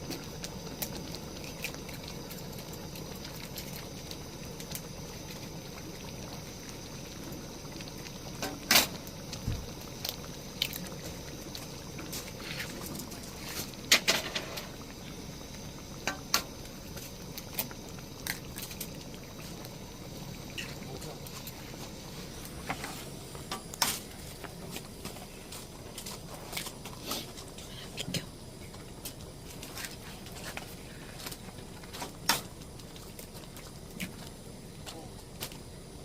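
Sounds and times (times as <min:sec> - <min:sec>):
pot of liquid boiling: 0:00.0 - 0:36.0.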